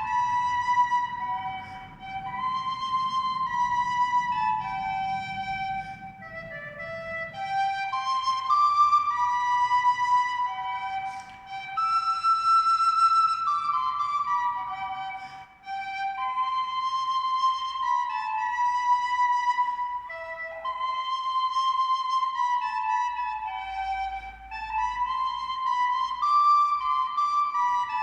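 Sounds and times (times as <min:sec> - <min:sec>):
slow flute-like melody: 0:00.0 - 0:28.0.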